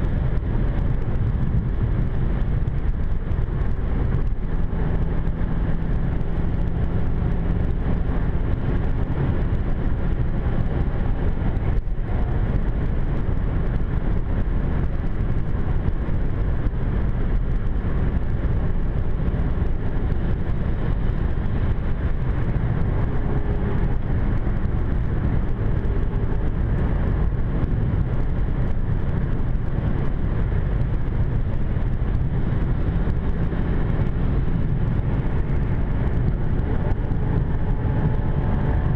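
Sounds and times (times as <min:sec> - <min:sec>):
car cabin road and wind drone: 0:00.0 - 0:38.9
car engine: 0:00.0 - 0:38.9.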